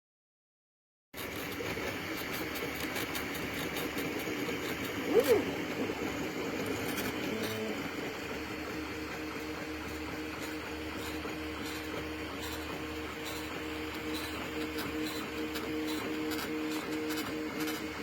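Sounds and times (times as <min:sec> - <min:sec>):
stepper motors whining: 0:01.2 - 0:18.0.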